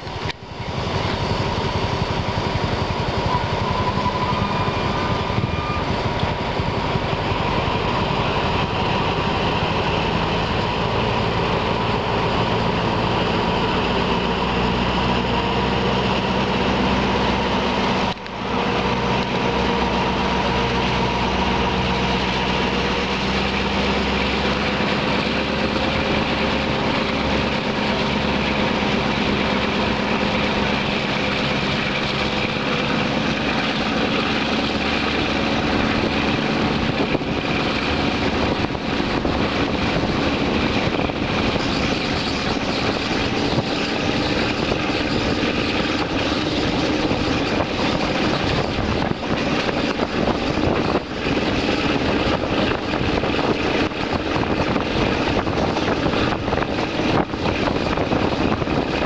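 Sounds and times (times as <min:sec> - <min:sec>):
diesel train engine drone: 0:00.0 - 0:59.0
train wheel noise: 0:00.0 - 0:59.0.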